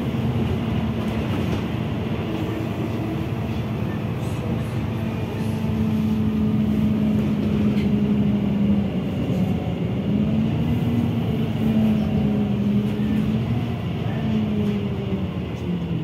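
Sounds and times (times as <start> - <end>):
bus running noise: 0.0 - 16.0.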